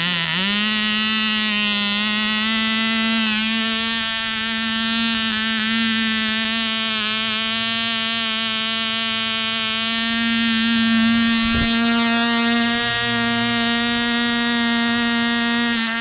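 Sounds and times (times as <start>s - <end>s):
model plane engine buzzing: 0.0s - 16.0s.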